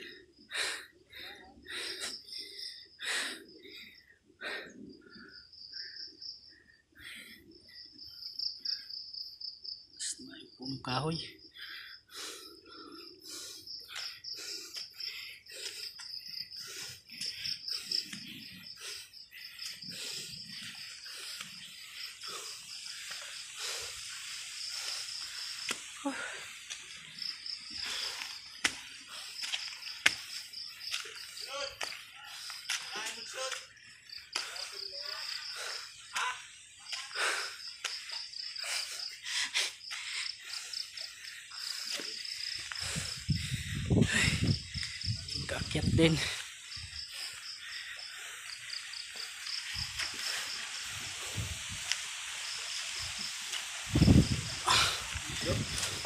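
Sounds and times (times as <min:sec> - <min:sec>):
insect trilling: 0:07.3 - 0:56.0.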